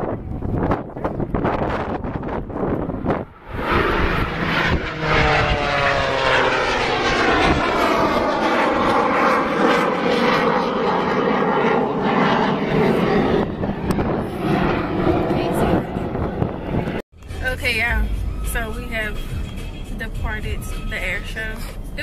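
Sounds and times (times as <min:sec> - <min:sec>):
airplane flying past: 0:00.0 - 0:22.0.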